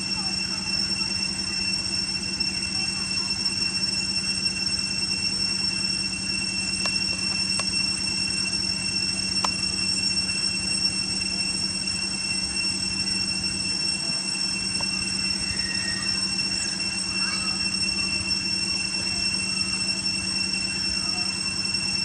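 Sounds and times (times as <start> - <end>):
high-pitched two-tone whine: 0.0 - 22.0.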